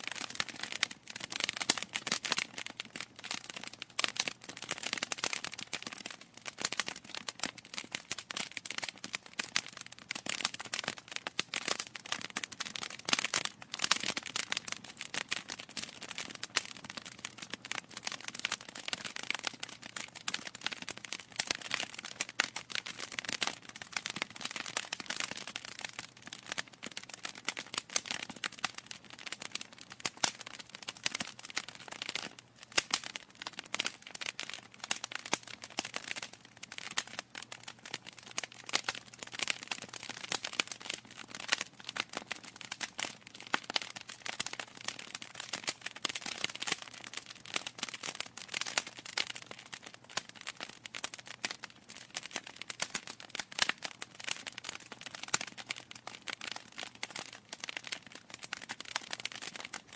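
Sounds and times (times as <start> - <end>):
wood fire crackling: 0.0 - 59.8.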